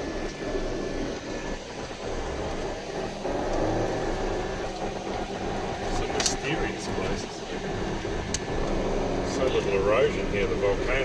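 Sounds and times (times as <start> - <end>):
car engine running: 0.0 - 11.0
road noise inside car: 0.0 - 11.0.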